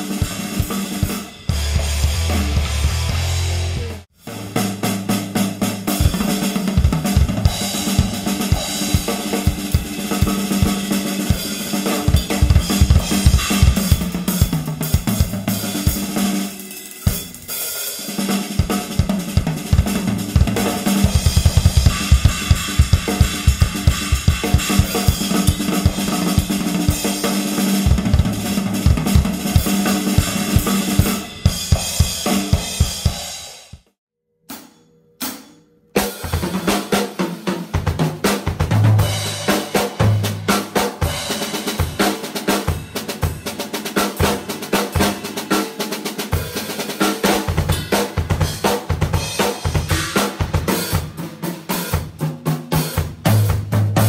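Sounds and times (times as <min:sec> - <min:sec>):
acoustic drum kit: 0:00.0 - 0:54.0.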